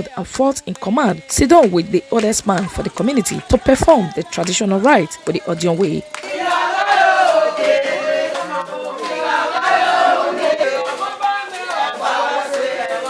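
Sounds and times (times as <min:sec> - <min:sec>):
group of people chanting: 0:00.0 - 0:13.0.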